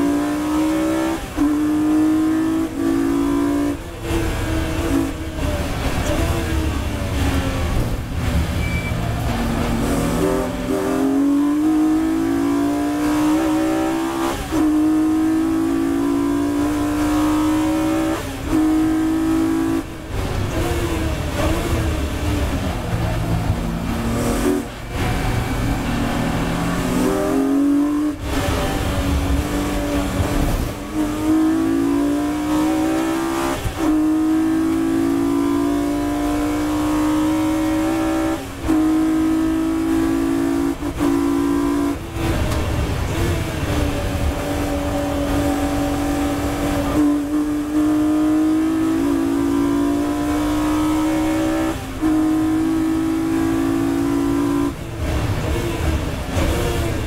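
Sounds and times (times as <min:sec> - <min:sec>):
race car engine accelerating: 0:00.0 - 0:57.0
road and wind noise: 0:00.0 - 0:57.0.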